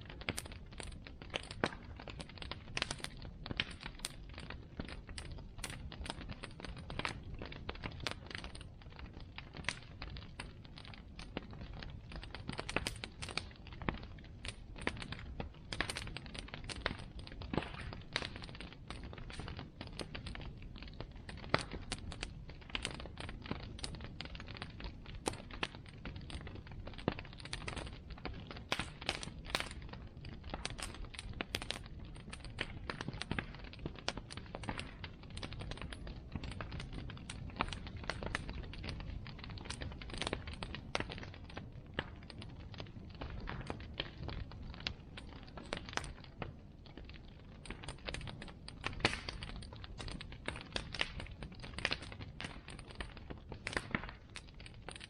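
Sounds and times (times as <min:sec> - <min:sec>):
bonfire crackling and popping: 0:00.0 - 0:55.0
low rush of fire: 0:00.0 - 0:55.0.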